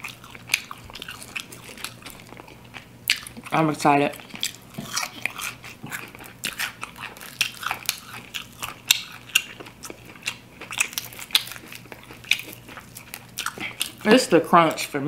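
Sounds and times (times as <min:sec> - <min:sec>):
crisp crunches of chewing: 0:00.0 - 0:14.9.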